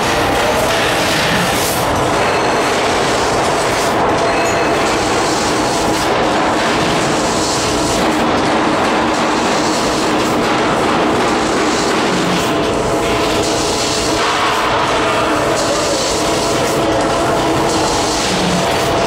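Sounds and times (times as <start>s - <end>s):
laser cutter hiss and rumble: 0.0s - 19.0s.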